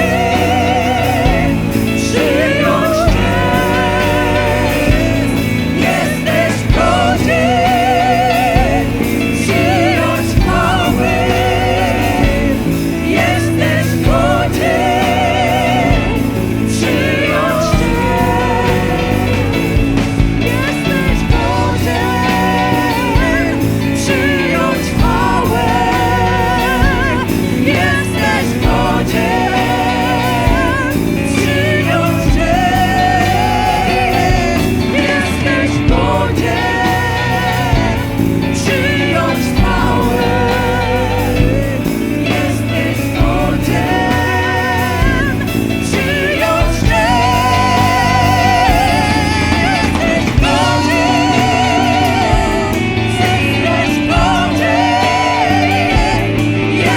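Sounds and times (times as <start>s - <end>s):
singer holding long vibrato notes: 0.0s - 56.9s
worship band playing: 0.0s - 56.9s.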